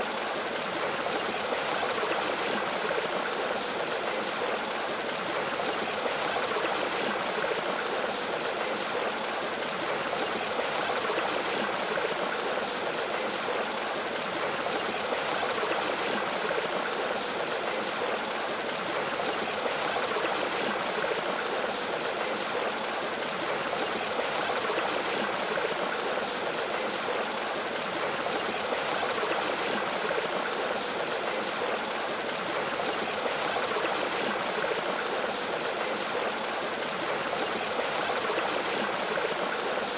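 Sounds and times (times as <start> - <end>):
small waterfall: 0.0 - 39.9
stream flowing over rocks: 0.0 - 39.9.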